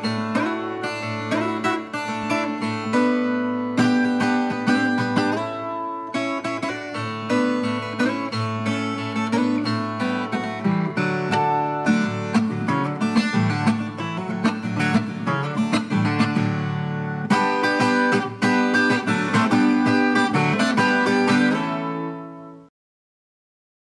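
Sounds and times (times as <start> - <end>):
plucked guitar music: 0.0 - 22.7.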